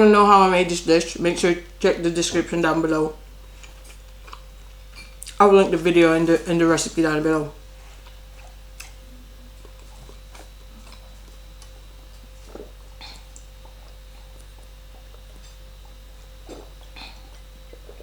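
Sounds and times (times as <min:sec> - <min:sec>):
low electrical hum: 0:00.0 - 0:18.0
mouth noises eating: 0:00.0 - 0:18.0.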